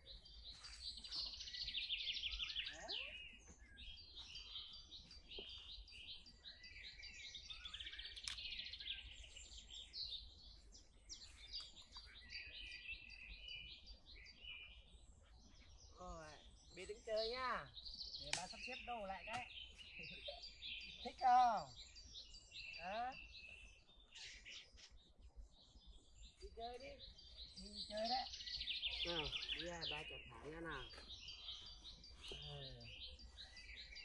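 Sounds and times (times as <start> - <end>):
birds chirping and singing: 0.0 - 34.0.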